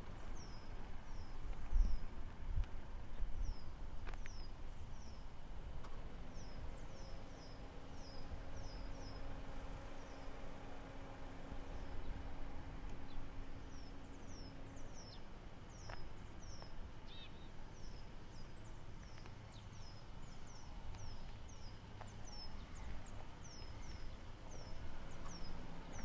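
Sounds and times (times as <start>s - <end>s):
small birds chirping: 0.0s - 2.4s, 3.1s - 26.0s
low background rumble: 0.0s - 26.0s
low steady hum: 0.0s - 26.0s.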